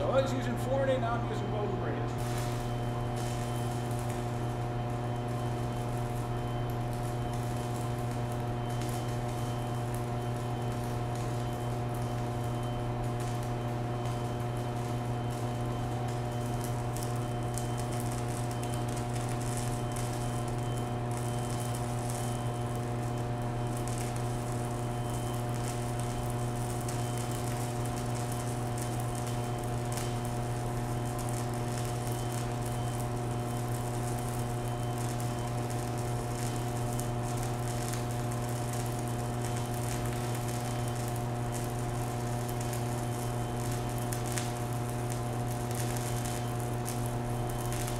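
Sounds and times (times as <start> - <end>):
welding arc crackling: 0.0 - 47.9.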